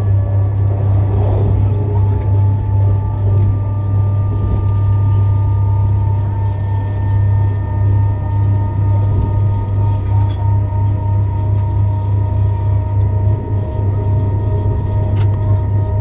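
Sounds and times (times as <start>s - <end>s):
train rumble inside carriage: 0.0s - 16.0s
whining tones: 0.0s - 16.0s.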